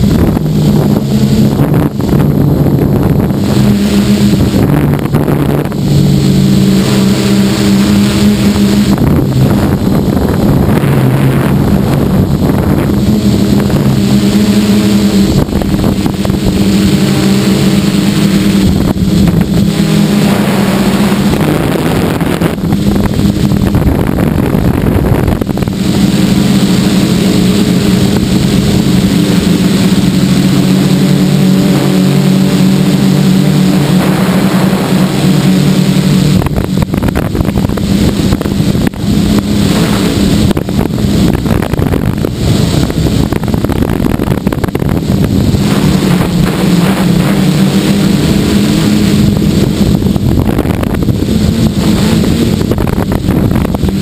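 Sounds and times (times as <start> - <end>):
drone motors and propellers humming: 0.0 - 54.0
wind noise on microphone: 0.0 - 54.0.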